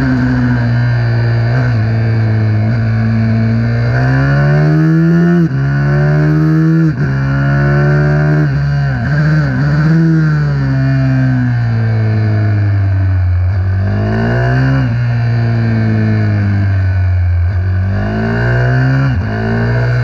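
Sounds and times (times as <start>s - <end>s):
racing motorcycle engine revving: 0.0s - 20.0s.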